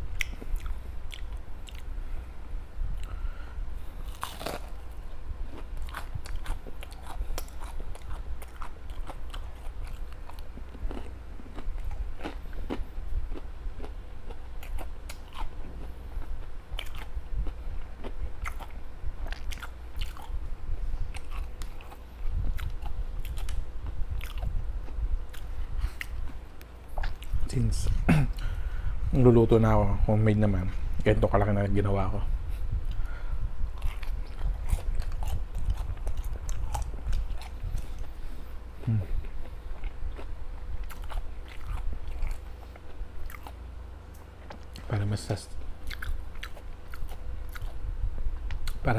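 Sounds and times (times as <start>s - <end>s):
person chewing crunchy food: 0.1s - 2.0s, 2.9s - 27.6s, 32.8s - 47.8s.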